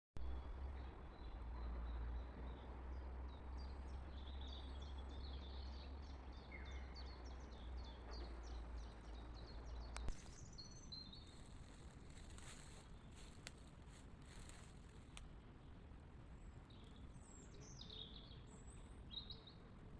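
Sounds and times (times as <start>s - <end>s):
low steady rumble: 0.2s - 19.9s
songbird chirping: 0.3s - 19.9s.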